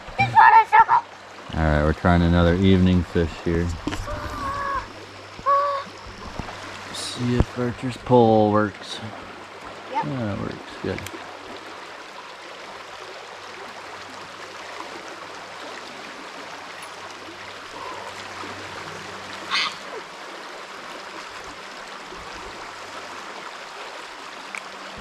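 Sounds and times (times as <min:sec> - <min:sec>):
river water rushing: 0:03.3 - 0:25.0.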